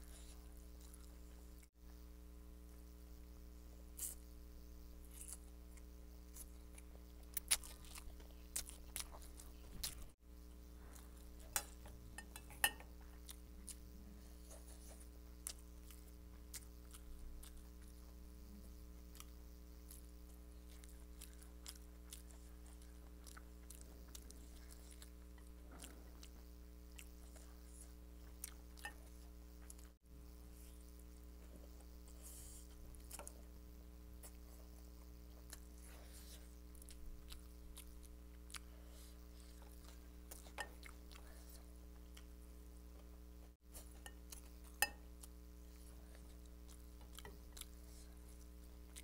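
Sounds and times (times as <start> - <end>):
faint steady hum: 0.0 - 49.0
person chewing noodles: 5.0 - 33.4, 34.2 - 42.5, 43.7 - 49.0.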